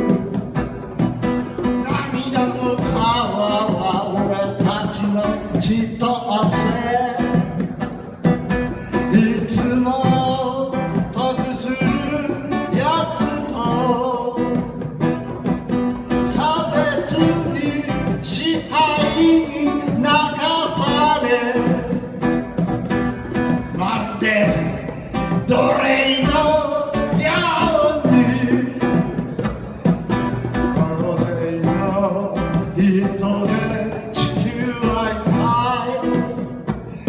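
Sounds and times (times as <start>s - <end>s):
live reggae band: 0.0s - 37.0s
plucked guitar: 0.0s - 37.0s.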